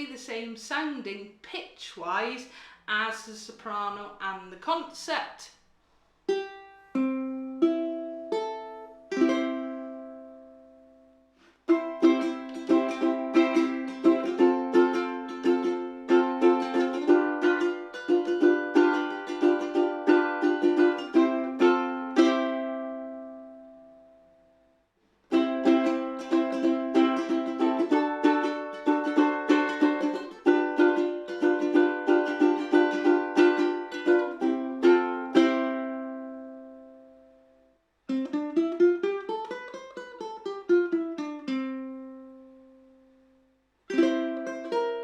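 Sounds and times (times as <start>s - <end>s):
ukulele strumming: 6.3s - 43.2s, 43.9s - 45.0s.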